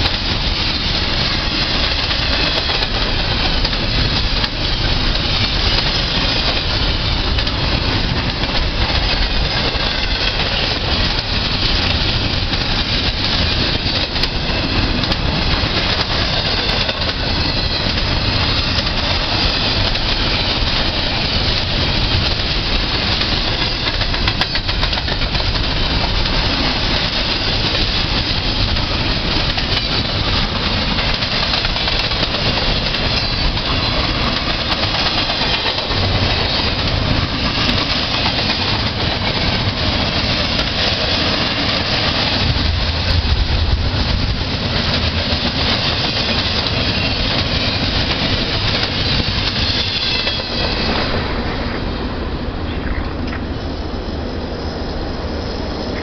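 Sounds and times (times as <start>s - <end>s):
rail cars rattling: 0.0s - 56.0s
train wheels on rail: 0.0s - 56.0s.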